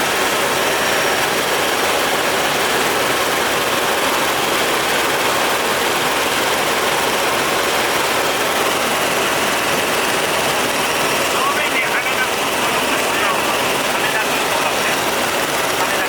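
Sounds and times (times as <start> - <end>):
helicopter engine and rotor noise: 0.0 - 16.0.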